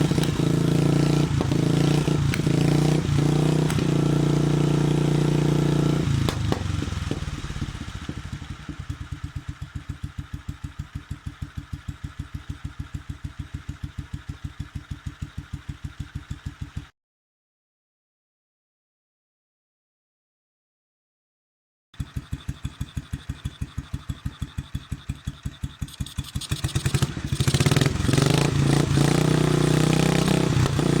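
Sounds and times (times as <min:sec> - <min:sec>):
motorcycle engine revving and idling: 0:00.0 - 0:16.9, 0:22.0 - 0:31.0.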